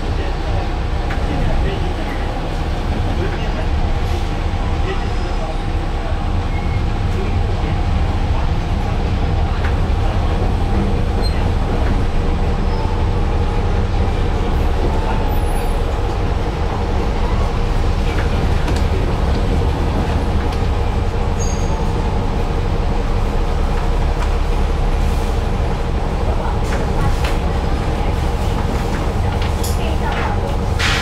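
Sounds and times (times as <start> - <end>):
trolleybus interior rumble: 0.0 - 31.0.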